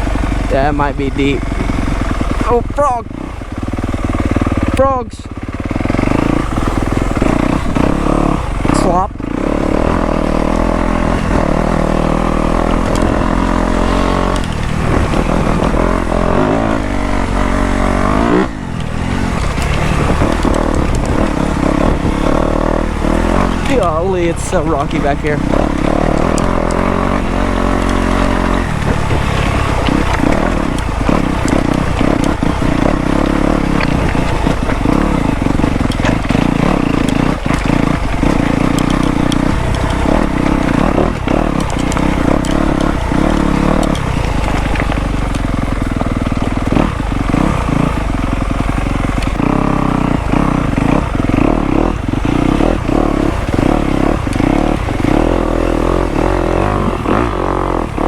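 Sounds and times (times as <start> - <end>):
dirt bike engine revving: 0.0 - 58.0
rocks clattering under tyres: 5.6 - 58.0.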